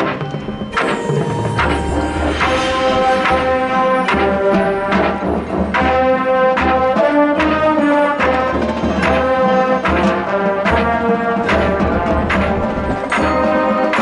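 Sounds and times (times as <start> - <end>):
sharp percussion accents: 0.0 - 14.0
brass chords: 0.7 - 14.0.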